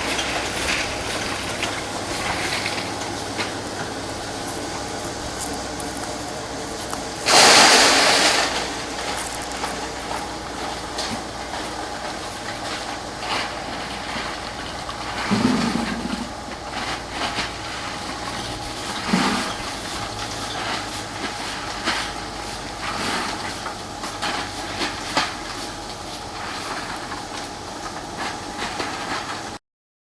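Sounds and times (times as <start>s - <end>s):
drum dryer humming: 0.0s - 29.6s.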